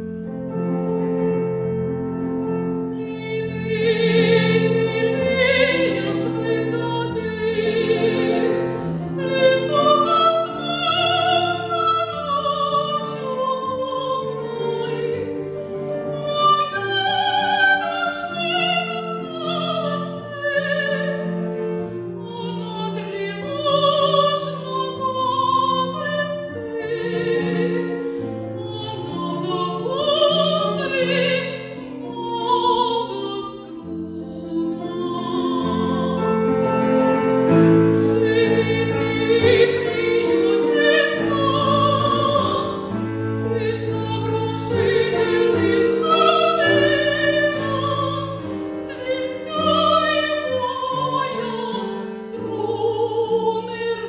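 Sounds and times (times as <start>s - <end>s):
piano accompaniment: 0.0s - 54.0s
woman singing classical song: 2.5s - 54.0s.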